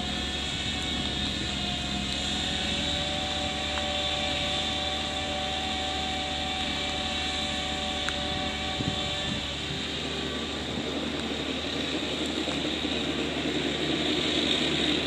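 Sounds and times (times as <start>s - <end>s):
snowblower whine: 0.0s - 15.0s
tractor diesel engine droning: 0.0s - 15.0s.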